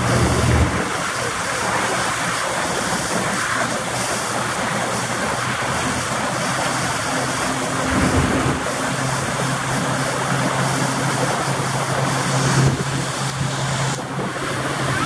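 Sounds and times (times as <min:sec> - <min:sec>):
outboard motor humming: 0:00.0 - 0:15.0
rush of wind and water: 0:00.0 - 0:15.0.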